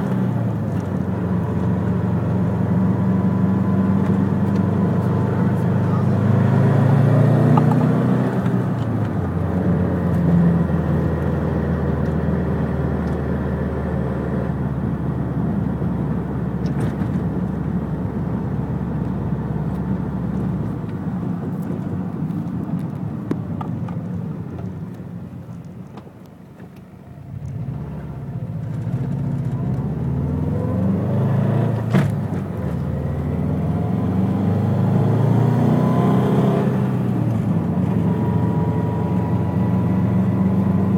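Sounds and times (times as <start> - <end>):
car engine running: 0.0 - 36.1.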